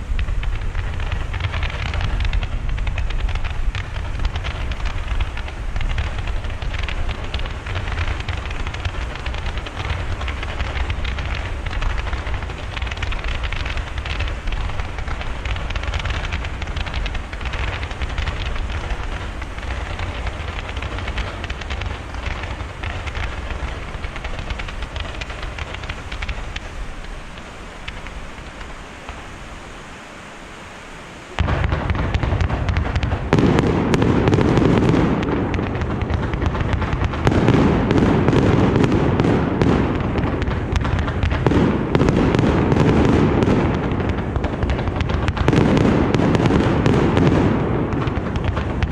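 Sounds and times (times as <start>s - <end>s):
fireworks crackling pops: 0.0s - 48.9s.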